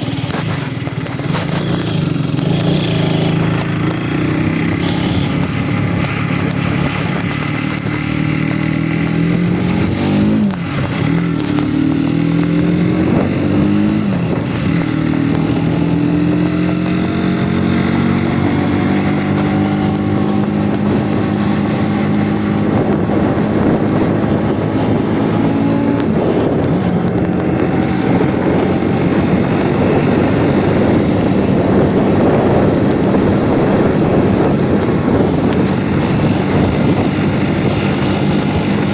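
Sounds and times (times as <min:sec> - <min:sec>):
motorcycle engine changing gear: 0:00.0 - 0:38.9.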